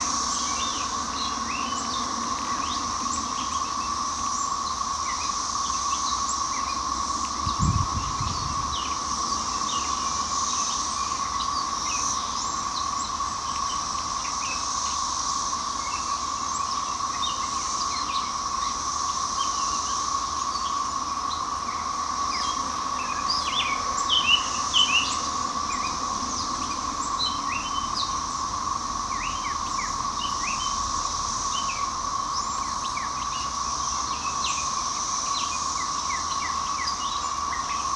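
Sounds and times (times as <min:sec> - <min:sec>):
cicadas droning: 0:00.0 - 0:37.9.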